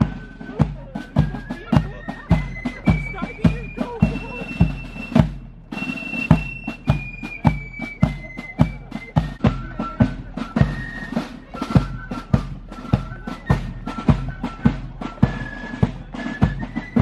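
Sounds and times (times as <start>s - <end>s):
high piped melody: 0.0s - 17.0s
marching drums: 0.0s - 17.0s.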